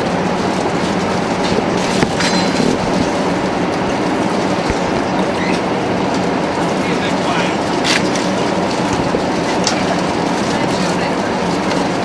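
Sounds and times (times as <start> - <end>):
airplane cabin noise: 0.0 - 12.0.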